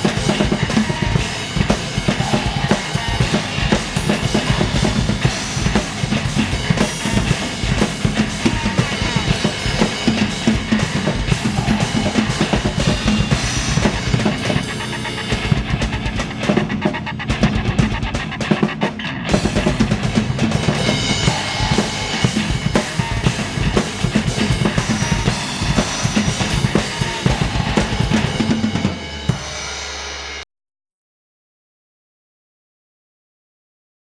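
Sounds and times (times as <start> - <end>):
fast drum kit playing: 0.0 - 30.4
rock song: 0.0 - 30.4.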